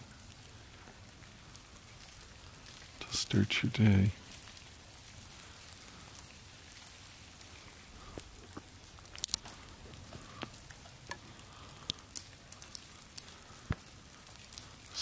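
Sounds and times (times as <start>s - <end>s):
faint steady hiss: 0.0s - 15.0s
melting snow dripping: 0.0s - 15.0s.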